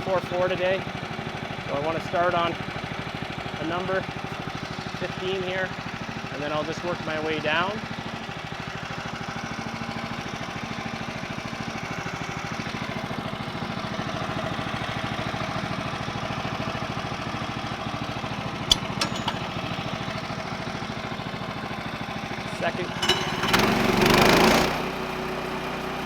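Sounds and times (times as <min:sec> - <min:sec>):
sawmill engine running: 0:00.2 - 0:26.0.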